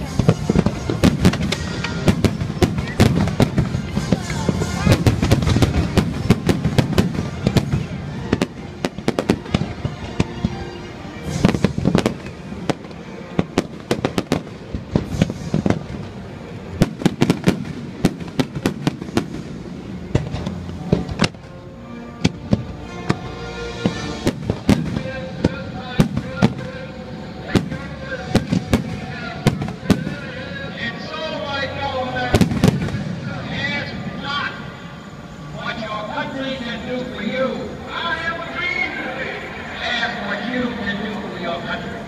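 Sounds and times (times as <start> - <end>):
fireworks bangs and crackles: 0.0 - 21.6, 22.2 - 35.4
music playing: 0.0 - 42.0.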